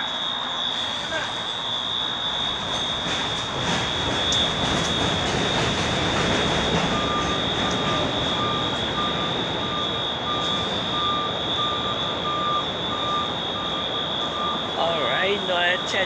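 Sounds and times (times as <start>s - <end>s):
vehicle reversing beeper: 0.0s - 5.6s, 6.7s - 16.0s
constant high whine: 0.0s - 16.0s
street traffic noise: 0.0s - 16.0s.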